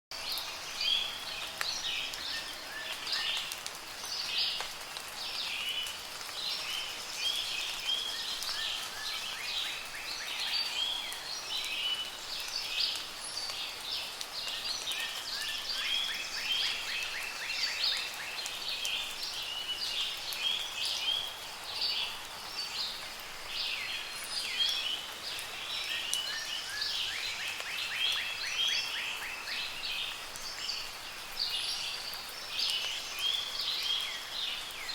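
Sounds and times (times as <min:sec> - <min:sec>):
rain patter: 0:00.1 - 0:34.9
birds singing and calling: 0:00.2 - 0:34.9.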